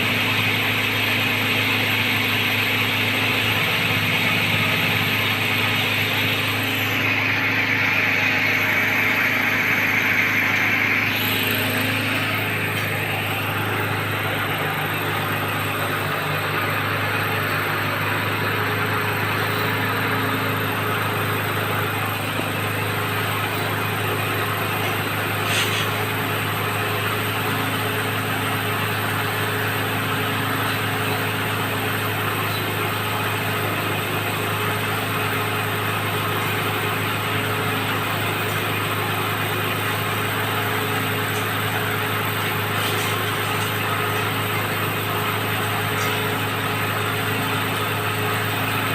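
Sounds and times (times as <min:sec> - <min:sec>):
drilling rig engine running: 0:00.0 - 0:48.9.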